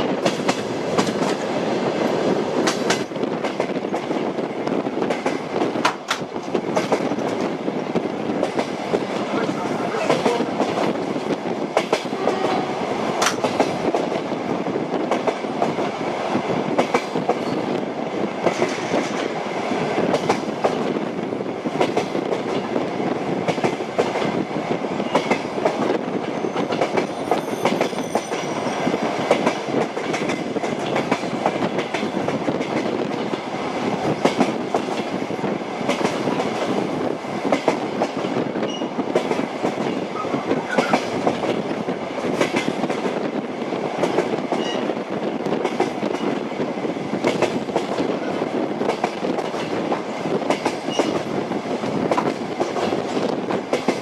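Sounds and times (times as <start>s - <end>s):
train wheels clacking: 0.0s - 7.6s, 8.4s - 14.4s, 16.7s - 21.0s, 21.6s - 35.2s, 35.8s - 46.4s, 47.1s - 54.0s
railway carriage rumble: 0.0s - 54.0s.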